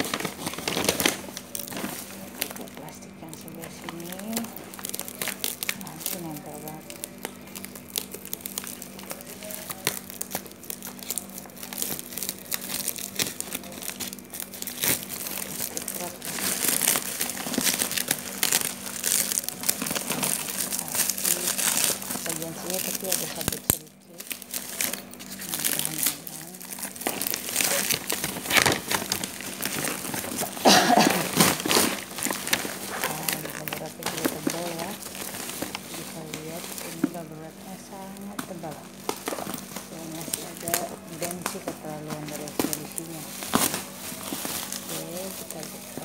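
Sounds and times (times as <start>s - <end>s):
plastic film crinkling: 0.0s - 46.0s
steady low hum: 0.0s - 46.0s.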